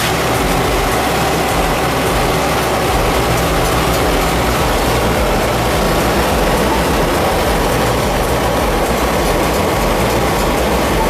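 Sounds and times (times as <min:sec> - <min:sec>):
heavy machinery rumbling and grinding: 0:00.0 - 0:11.0.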